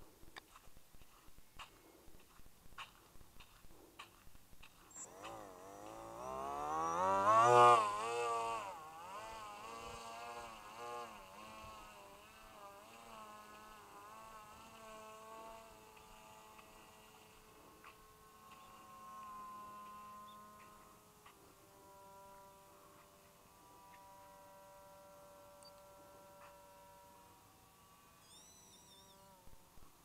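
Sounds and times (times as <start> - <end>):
model plane motor whine: 4.8 - 30.0.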